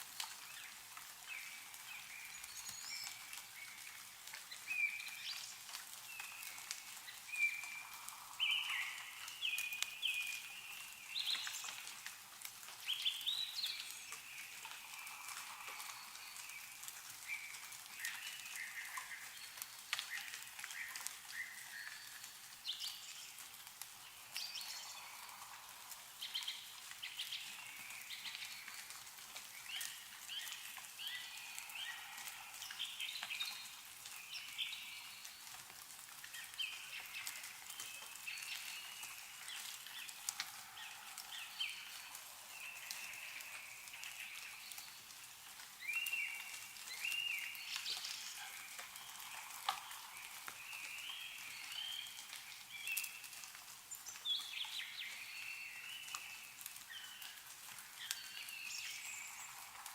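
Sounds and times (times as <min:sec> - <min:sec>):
meltwater dripping: 0:00.0 - 0:59.9
small birds chirping: 0:00.1 - 0:59.9.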